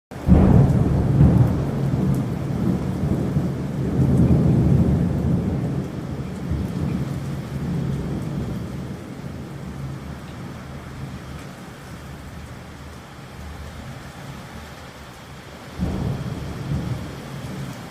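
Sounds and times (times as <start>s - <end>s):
thunder rumbling: 0.1s - 14.7s, 15.6s - 17.9s
rain hissing: 0.2s - 17.9s.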